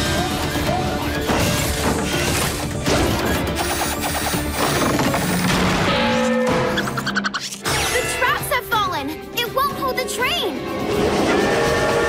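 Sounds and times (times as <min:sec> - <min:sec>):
action background music: 0:00.0 - 0:12.0.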